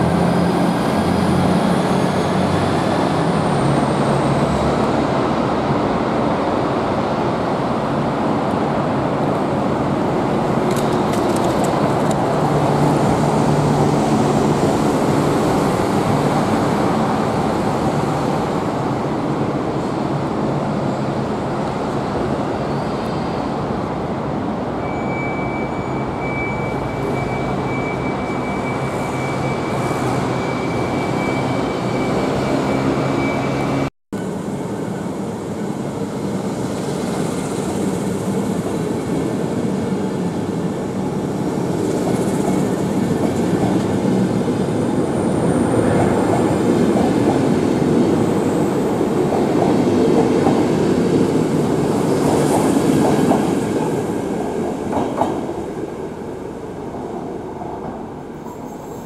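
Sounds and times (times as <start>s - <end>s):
train running on track: 0.0s - 59.0s.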